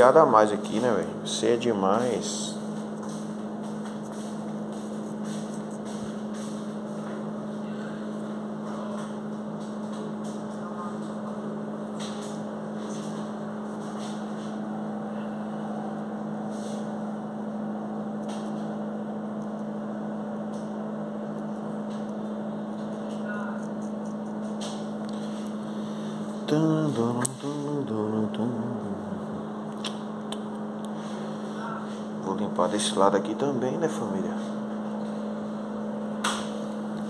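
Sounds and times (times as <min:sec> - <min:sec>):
steady electric hum: 0:00.0 - 0:37.0.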